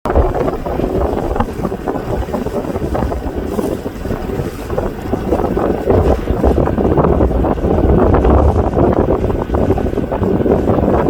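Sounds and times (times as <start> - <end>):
boat engine running: 0.0 - 11.0
water noise: 0.0 - 11.0
wind buffeting microphone: 0.0 - 11.0.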